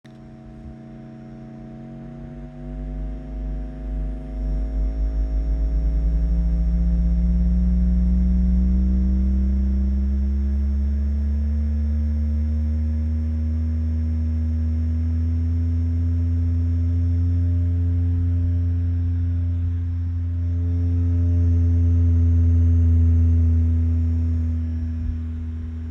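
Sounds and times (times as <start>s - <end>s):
deep steady bass tone: 0.0s - 25.9s.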